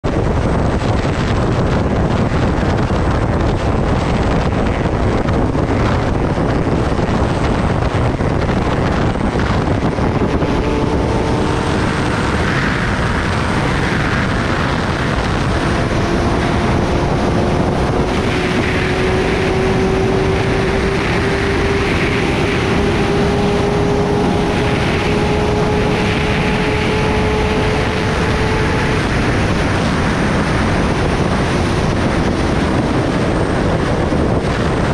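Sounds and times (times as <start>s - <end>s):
motorcycle engine hum: 0.0s - 34.9s
wind on microphone: 0.0s - 34.9s.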